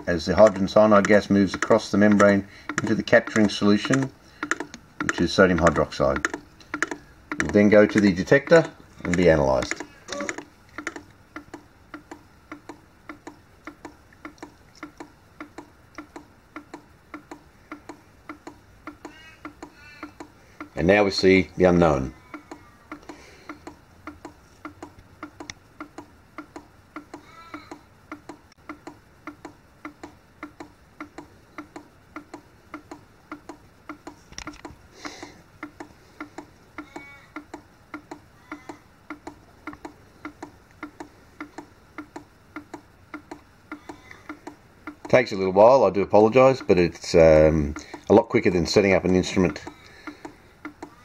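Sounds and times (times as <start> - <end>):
machine ticking clicks: 0.0 - 45.4, 46.2 - 51.0.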